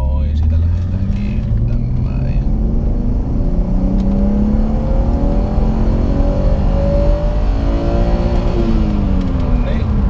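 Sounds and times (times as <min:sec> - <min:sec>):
car engine revving under full throttle: 0:00.2 - 0:10.0.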